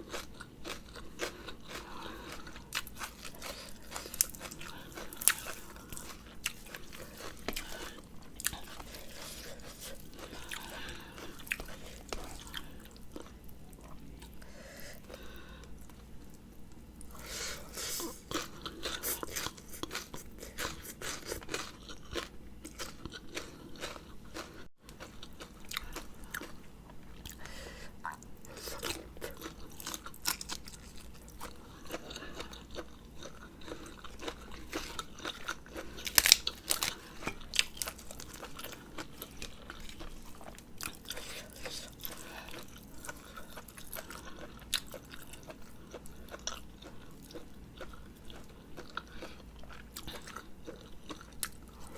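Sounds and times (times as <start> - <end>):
person chewing and crunching food: 0.0 - 51.9.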